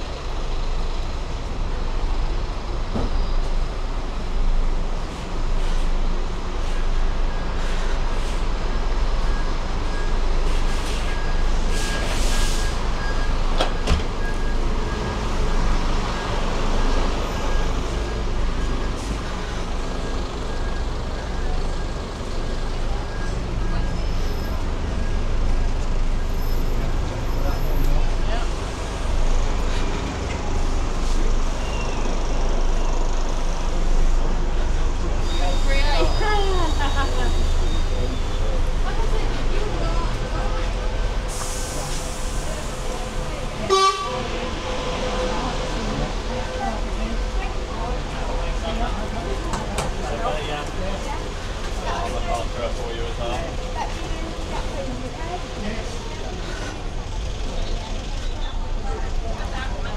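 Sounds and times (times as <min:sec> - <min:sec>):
heavy vehicle engine rumbling: 0:00.0 - 0:59.9
street traffic: 0:00.0 - 0:59.9.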